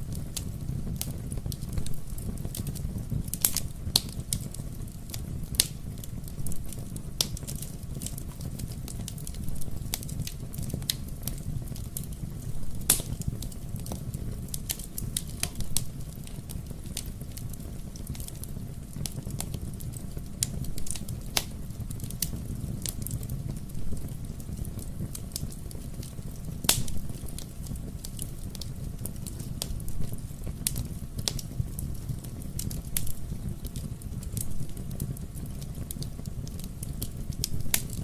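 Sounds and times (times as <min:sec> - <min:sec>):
fire crackling in fireplace: 0:00.0 - 0:38.0.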